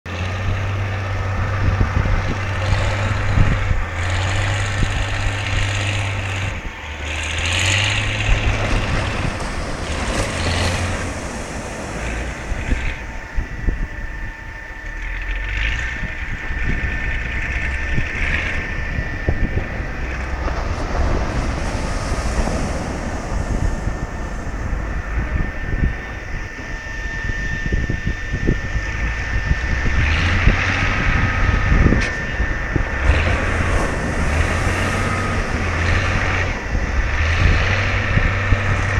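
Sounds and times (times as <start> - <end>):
wind buffeting the microphone: 0.0 - 38.9
waves breaking on a sandy shore: 0.1 - 38.9.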